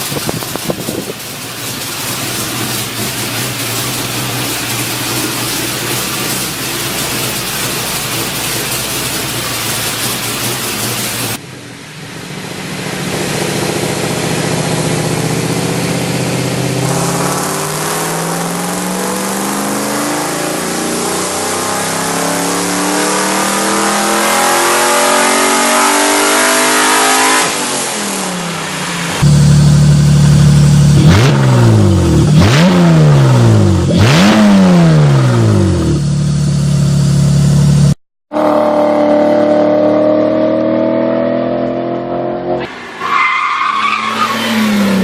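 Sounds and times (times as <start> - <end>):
louder engine revving: 0.0 - 11.4, 12.5 - 36.2, 37.3 - 42.8
car engine accelerating: 0.0 - 45.0.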